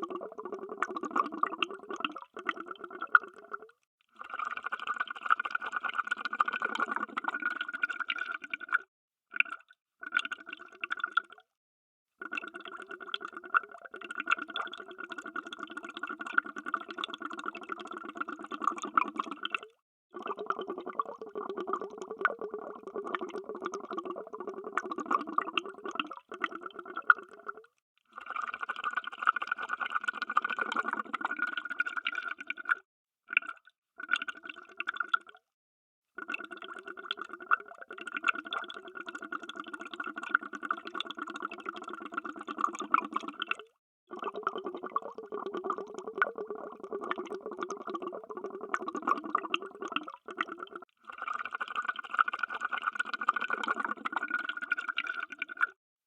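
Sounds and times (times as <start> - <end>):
underwater bubbles streaming: 0.0 - 8.8, 12.3 - 27.7, 30.3 - 32.8, 36.2 - 55.7.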